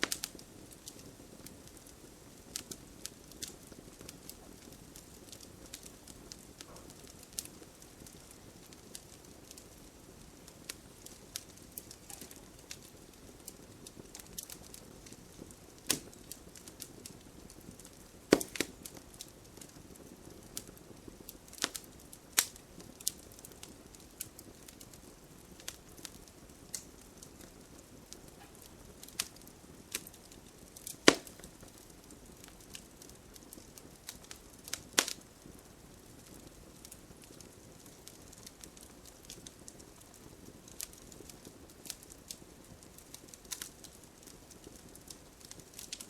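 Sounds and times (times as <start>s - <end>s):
campfire crackling: 0.0s - 46.0s
sharp pops of fire: 0.0s - 46.0s.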